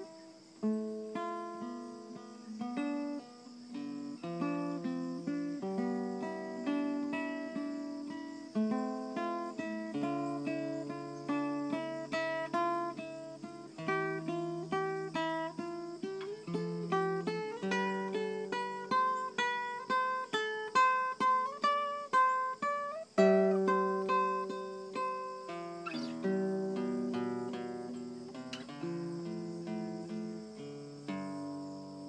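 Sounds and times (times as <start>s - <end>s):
fingerpicked classical guitar: 0.0s - 32.0s.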